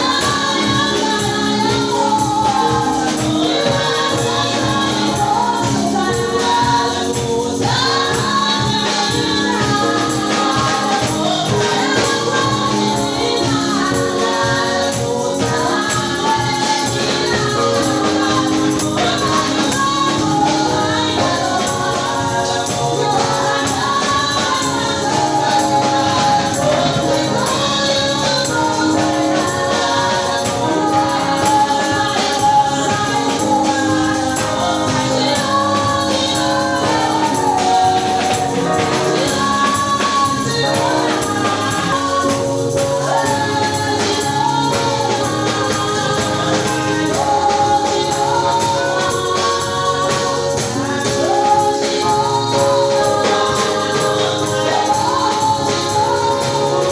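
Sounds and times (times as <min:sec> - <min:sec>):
choir singing gospel music: 0:00.0 - 0:56.9
tambourine and percussion: 0:00.0 - 0:56.9.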